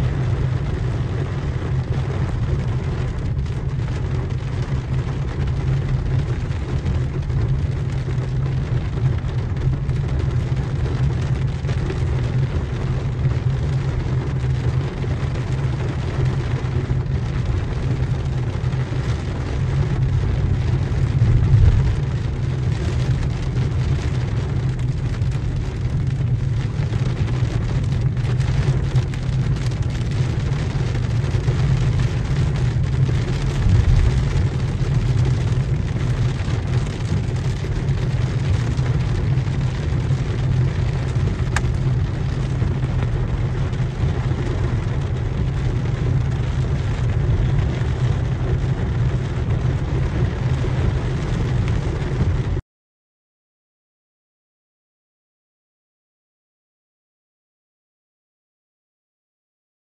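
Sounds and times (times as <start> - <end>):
heavy rain on car roof: 0.0 - 52.6
low car rumble: 0.0 - 52.6.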